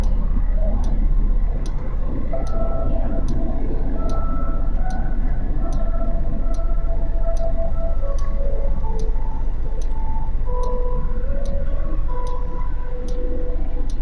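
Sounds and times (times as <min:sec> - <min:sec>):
faint steady tone: 0:00.0 - 0:14.0
sharp ticking: 0:00.0 - 0:14.0.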